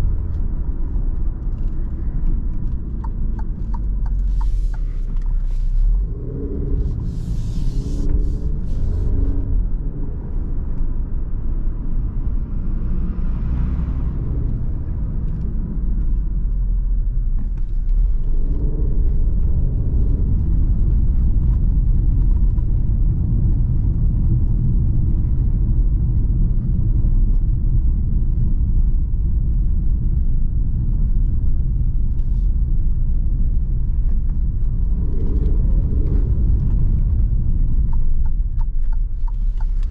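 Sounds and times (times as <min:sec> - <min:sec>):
tyre noise on cobblestones: 0:00.0 - 0:11.4, 0:12.1 - 0:39.9
car engine running: 0:00.0 - 0:39.9.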